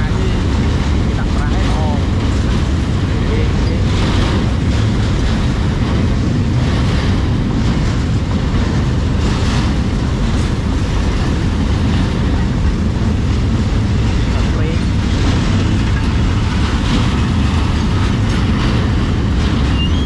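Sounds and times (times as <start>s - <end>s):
vehicle rumble: 0.0s - 20.0s
wind noise on microphone: 0.0s - 20.0s.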